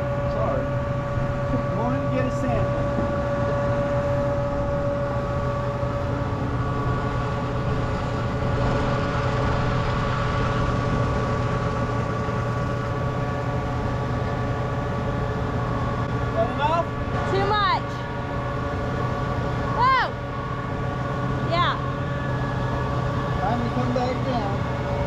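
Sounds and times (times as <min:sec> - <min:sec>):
diesel machinery engine hum: 0:00.0 - 0:25.0
steady whine: 0:00.0 - 0:25.0.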